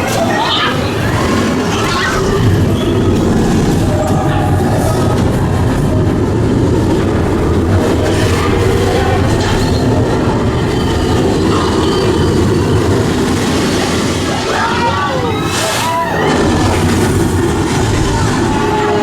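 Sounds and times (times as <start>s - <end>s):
moving vehicle rumble and rattle: 0.0s - 14.7s, 15.5s - 19.0s.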